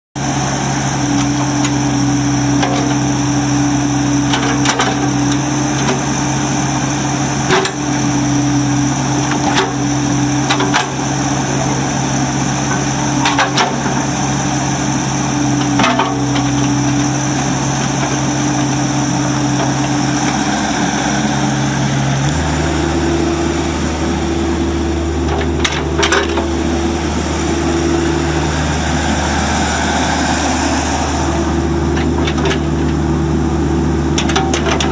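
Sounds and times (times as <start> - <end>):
diesel excavator engine running: 0.2 - 34.9.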